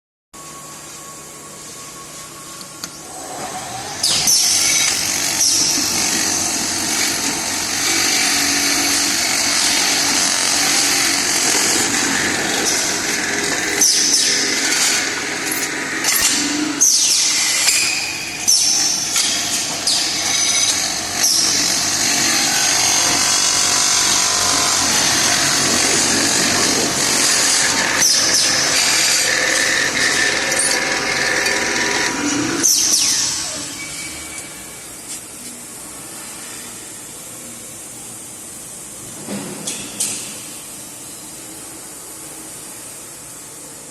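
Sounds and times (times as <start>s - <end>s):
loud hissing machine noise: 1.0s - 43.9s.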